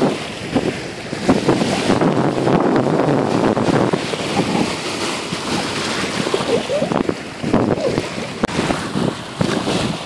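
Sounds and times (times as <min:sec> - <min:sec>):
small waves lapping at shore: 0:00.0 - 0:10.0
wind gusting across microphone: 0:00.0 - 0:10.0.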